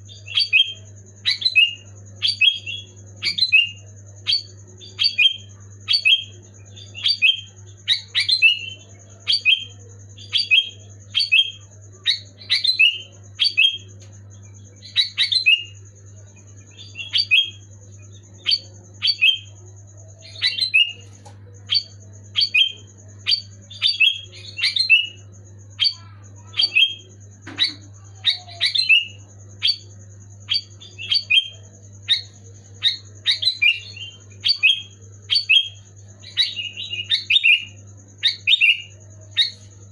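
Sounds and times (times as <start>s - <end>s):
bulbul calling: 0.0s - 15.8s, 16.4s - 39.9s
faint steady hum: 0.0s - 39.9s.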